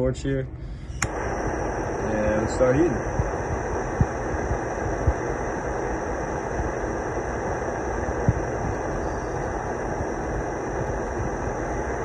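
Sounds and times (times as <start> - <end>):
torch jet flame hissing: 0.8 - 12.0.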